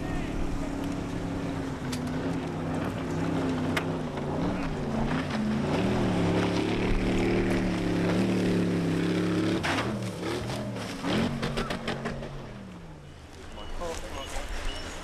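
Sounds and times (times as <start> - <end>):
speedboat engine at high speed: 0.0 - 15.0.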